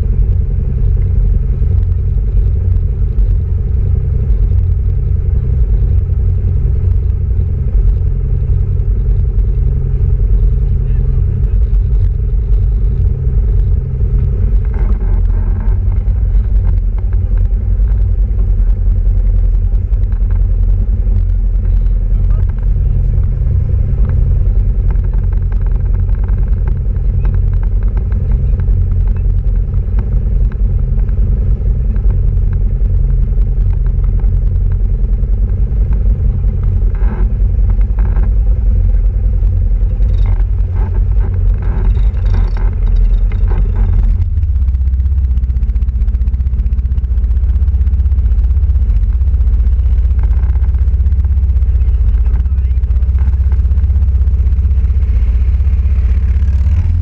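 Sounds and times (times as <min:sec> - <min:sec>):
quad bike engine rumbling: 0:00.0 - 0:57.0.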